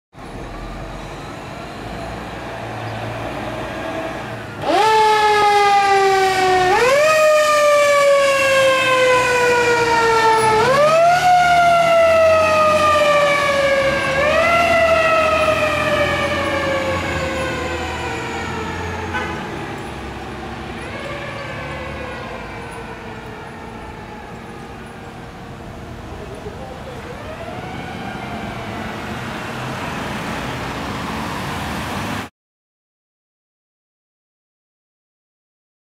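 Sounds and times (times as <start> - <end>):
truck engine rumbling: 0.2 - 32.2
fire engine siren: 0.2 - 32.3.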